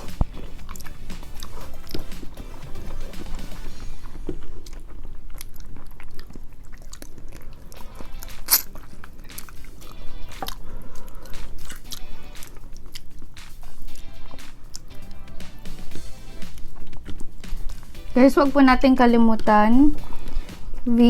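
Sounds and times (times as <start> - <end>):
background music: 0.0 - 4.7, 7.7 - 21.0
crisp chewing and biting: 0.0 - 18.2
mouth clicks: 0.0 - 20.9.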